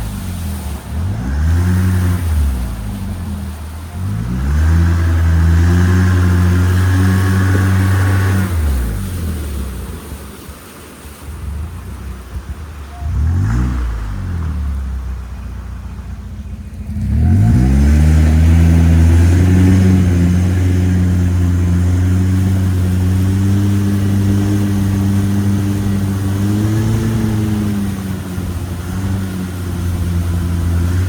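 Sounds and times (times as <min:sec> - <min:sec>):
boat engine revving: 0:00.0 - 0:31.0.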